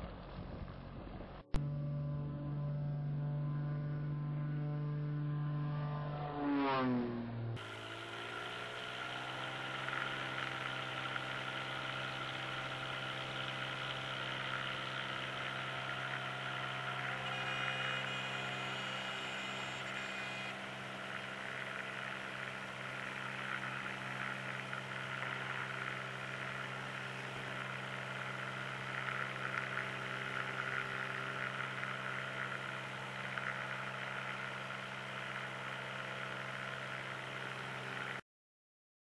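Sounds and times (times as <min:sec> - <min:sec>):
propeller aircraft engine drone: 0:00.0 - 0:38.2.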